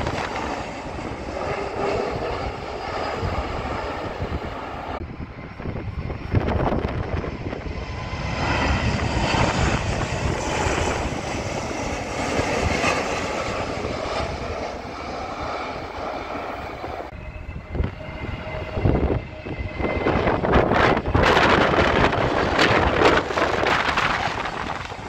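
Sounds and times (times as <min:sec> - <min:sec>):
jet engines rushing overhead: 0:00.0 - 0:25.0
wind noise: 0:00.0 - 0:25.0.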